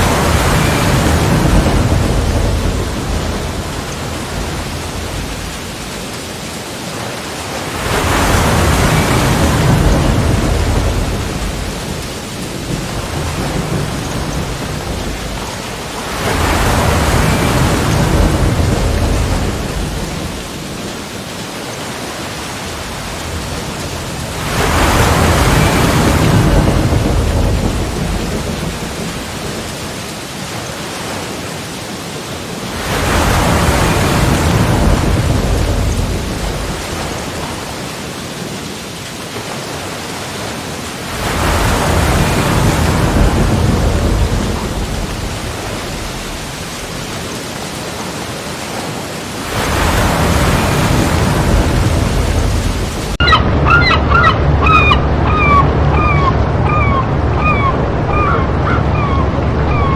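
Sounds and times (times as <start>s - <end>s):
sea waves breaking against rocks: 0.0s - 59.9s.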